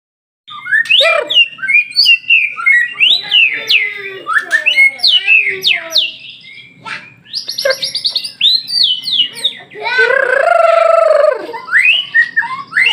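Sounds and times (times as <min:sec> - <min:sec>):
bird singing whistled song: 0:00.5 - 0:10.0, 0:11.5 - 0:12.9.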